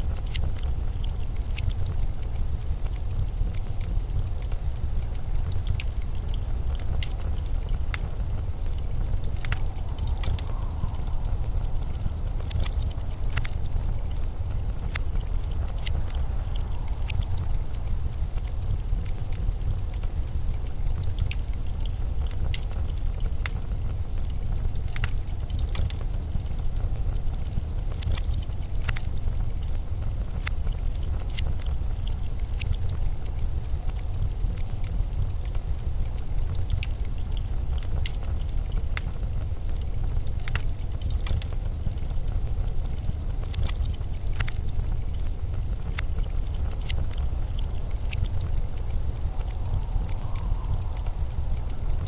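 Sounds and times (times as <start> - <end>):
blizzard wind rumbling: 0.0 - 40.4, 44.0 - 52.0
sharp crackles and ticks: 0.0 - 52.0.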